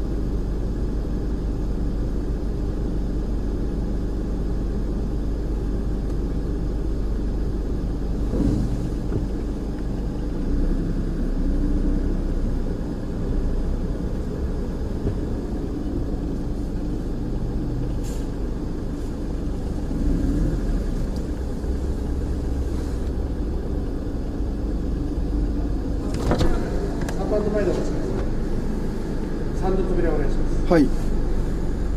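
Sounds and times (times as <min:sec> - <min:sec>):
car engine low rumble: 0:00.0 - 0:31.9.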